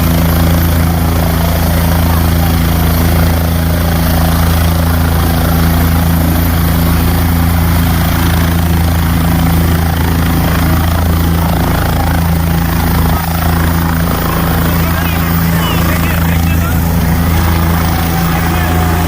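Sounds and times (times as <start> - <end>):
helicopter low hum: 0.0 - 19.0.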